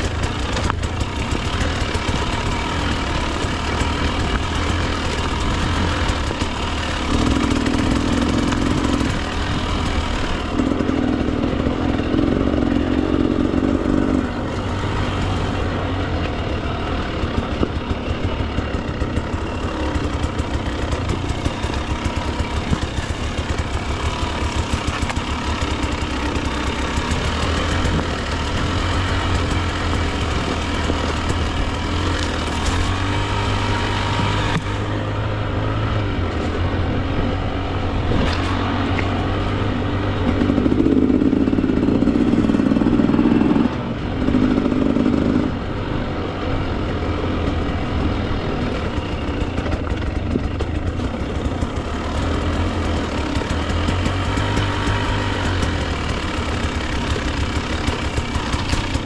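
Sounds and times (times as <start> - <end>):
dirt bike engine revving and popping: 0.0 - 59.0.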